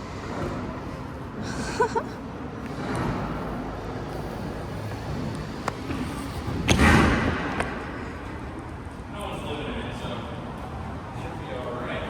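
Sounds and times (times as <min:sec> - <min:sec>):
background traffic noise: 0:00.0 - 0:12.0.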